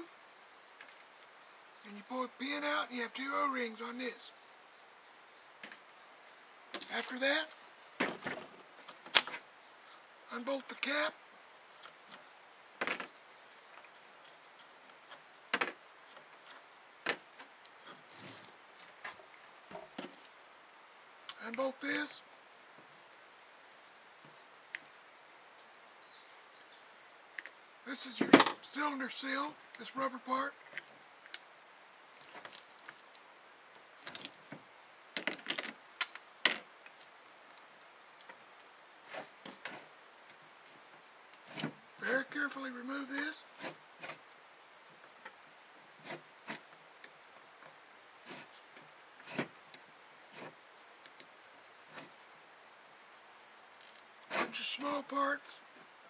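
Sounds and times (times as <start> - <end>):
high insect chirr: 0.0 - 56.0.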